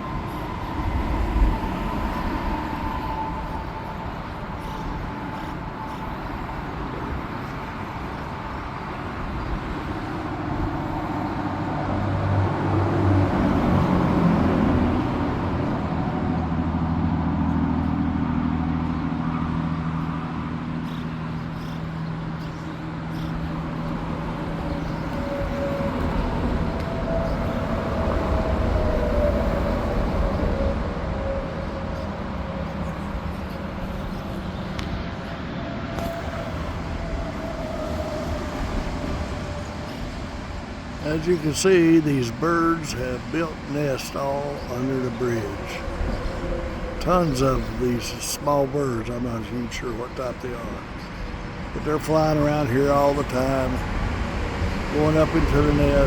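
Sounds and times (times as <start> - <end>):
engine rumble: 0.0 - 56.0.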